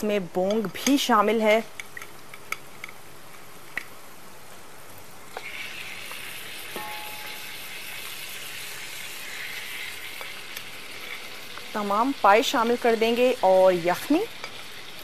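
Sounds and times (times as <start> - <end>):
spices sizzling in oil: 0.0 - 15.0.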